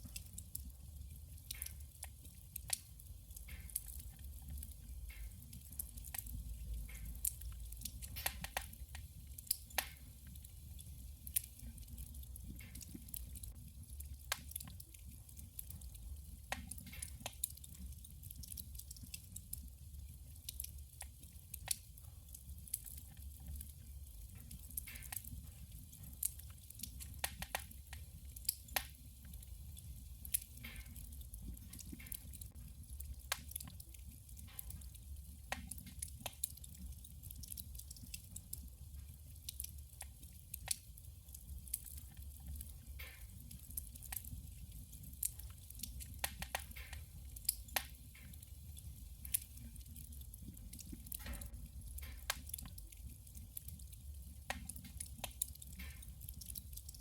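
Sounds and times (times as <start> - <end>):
firewood crackling and popping: 0.0 - 57.0
low rumble of fire: 0.0 - 57.0.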